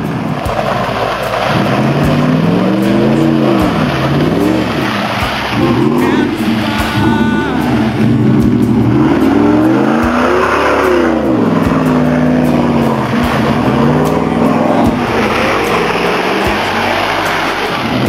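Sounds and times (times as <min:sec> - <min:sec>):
truck engine revving: 0:00.0 - 0:18.0
wheels spinning in mud: 0:00.0 - 0:18.0.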